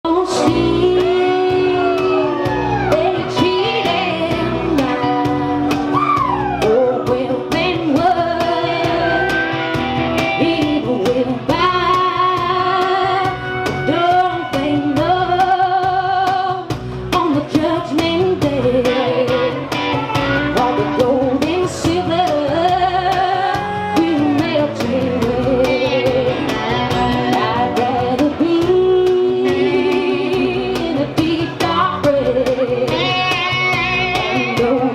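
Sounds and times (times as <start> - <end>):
band playing guitar and beat: 0.1 - 34.9
woman singing with vibrato: 0.1 - 34.9.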